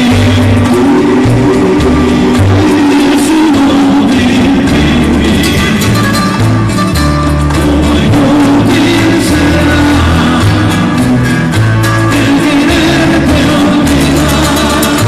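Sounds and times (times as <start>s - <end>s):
live bolero music over pa: 0.0s - 15.0s.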